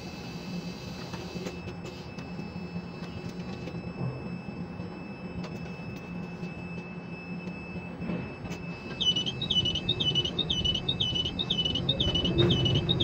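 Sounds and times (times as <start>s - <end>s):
crane machinery humming: 0.0s - 13.0s
high-pitched warning beeps: 0.2s - 13.0s.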